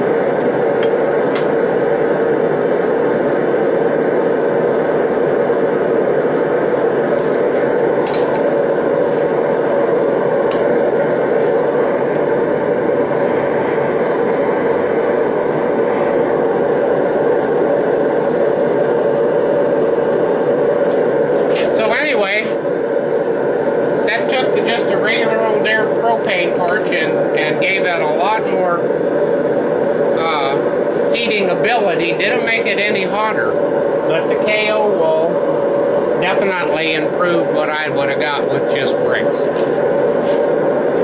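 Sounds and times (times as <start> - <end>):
torch burning with steady rush: 0.0 - 41.0.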